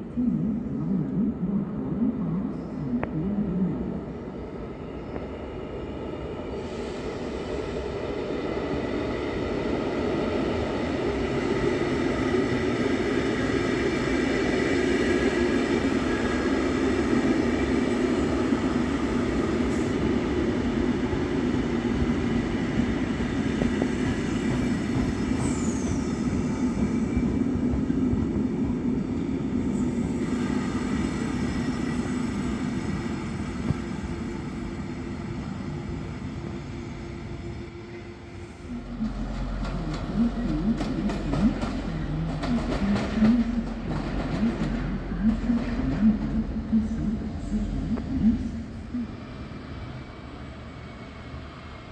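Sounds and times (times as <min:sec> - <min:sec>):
train wheels rumbling: 0:06.3 - 0:51.9.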